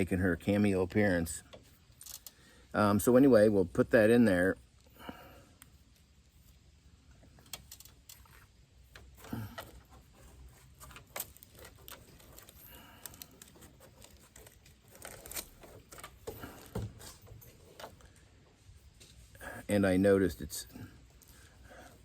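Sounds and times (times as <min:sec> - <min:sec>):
faint handling clicks and rustling: 0:00.0 - 0:19.4, 0:20.4 - 0:22.0.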